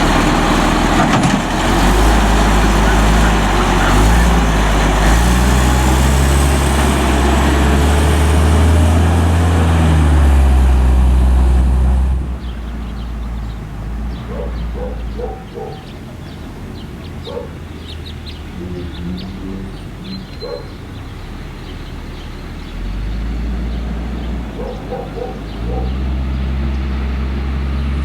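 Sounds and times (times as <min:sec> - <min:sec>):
birds chirping: 0:00.0 - 0:28.0
garbage truck diesel engine: 0:00.0 - 0:28.0.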